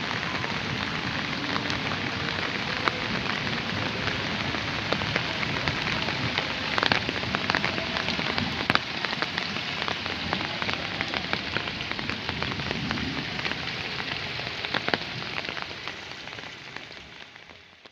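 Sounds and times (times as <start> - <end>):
steady rain falling: 0.0 - 17.9
water drips close by: 0.0 - 17.9.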